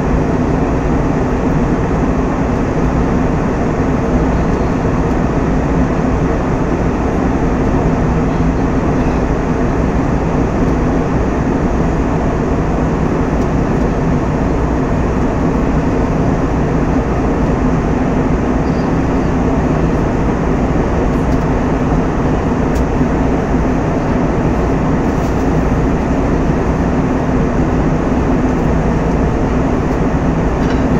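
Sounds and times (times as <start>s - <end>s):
airliner cabin engine noise: 0.0s - 30.9s.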